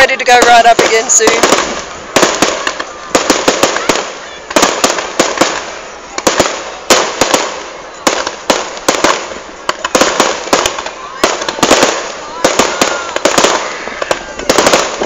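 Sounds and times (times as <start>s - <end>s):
firework crackle and hiss: 0.0s - 15.0s.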